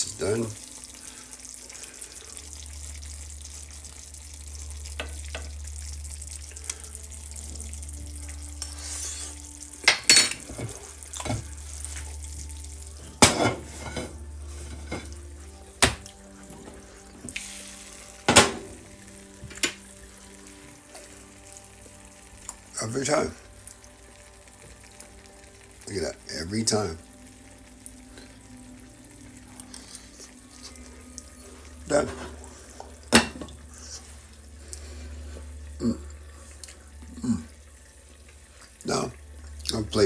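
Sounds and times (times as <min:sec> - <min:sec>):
stew simmering in a pan: 0:00.0 - 0:40.0.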